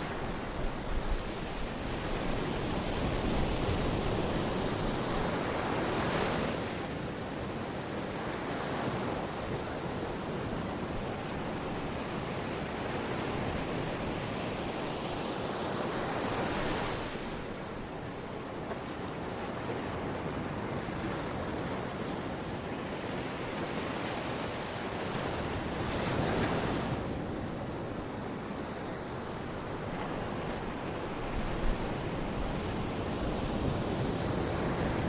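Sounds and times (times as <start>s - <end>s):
sea waves breaking on beach: 0.0s - 35.0s.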